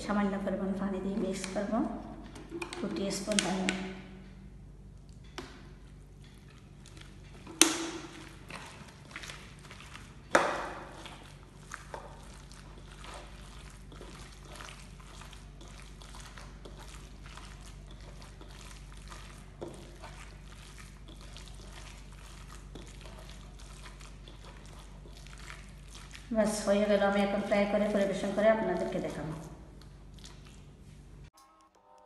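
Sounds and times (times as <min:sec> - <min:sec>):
hand squelching wet mash: 0:04.9 - 0:31.3.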